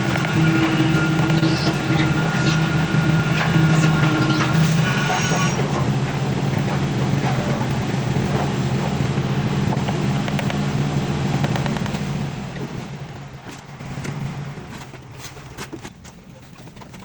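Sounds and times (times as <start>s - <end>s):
machine engine running: 0.0s - 14.8s.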